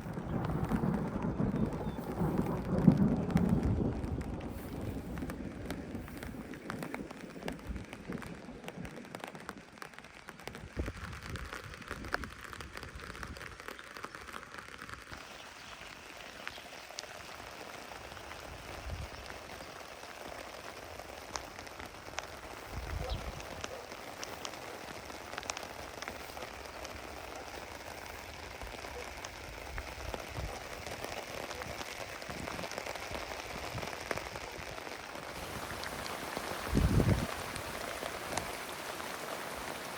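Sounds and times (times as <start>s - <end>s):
rain on a tent: 0.0s - 39.9s.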